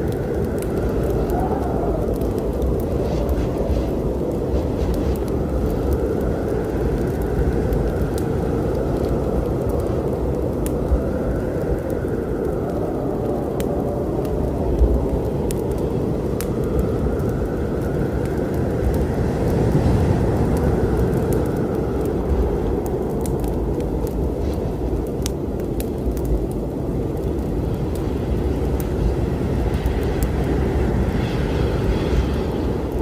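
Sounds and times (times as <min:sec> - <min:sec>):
rain: 0:00.0 - 0:33.0
wind: 0:00.0 - 0:33.0
wood fire crackling: 0:00.0 - 0:33.0.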